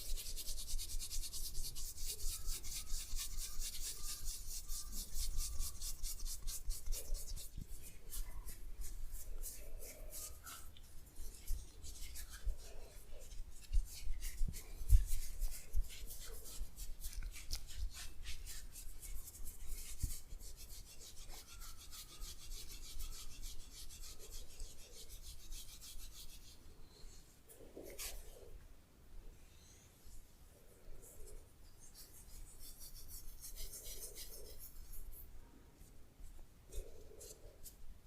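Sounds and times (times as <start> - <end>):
hands rubbing skin: 0.0 - 26.6, 27.6 - 28.5, 31.0 - 35.2.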